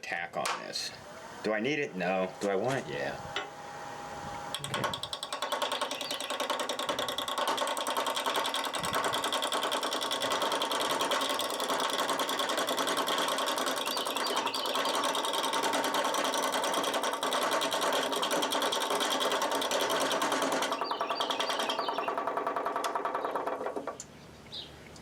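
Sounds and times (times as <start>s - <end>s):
wood lathe tool chatter: 0.4s - 24.0s.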